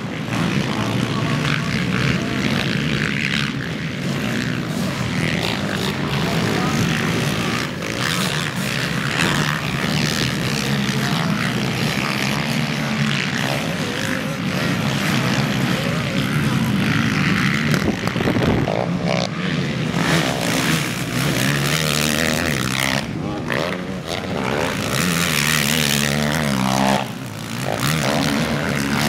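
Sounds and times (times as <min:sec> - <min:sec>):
quad bike engines revving: 0:00.0 - 0:29.0.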